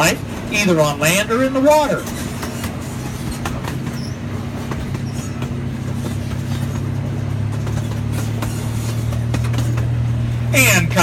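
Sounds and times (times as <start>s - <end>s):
train engine drone: 0.0s - 11.0s
wheel and track clicks: 0.0s - 11.0s.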